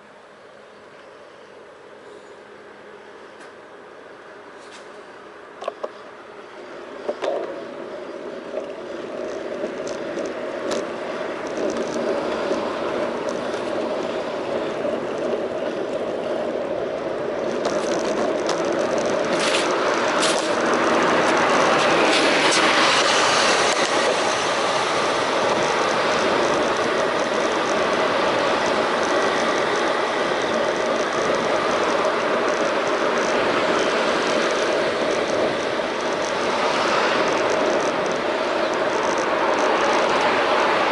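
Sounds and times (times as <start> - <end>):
wind noise: 5.6 - 40.9.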